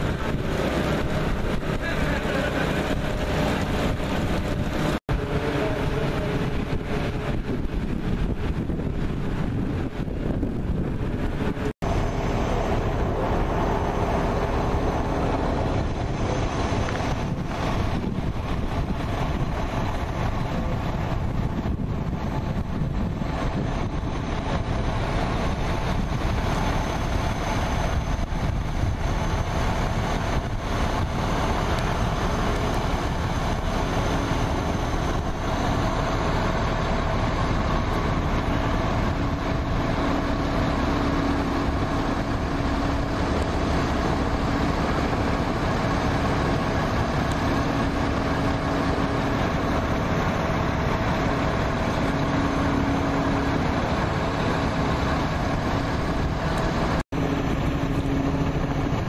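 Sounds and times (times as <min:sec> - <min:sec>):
fire engine pumps droning: 0:00.0 - 0:59.0.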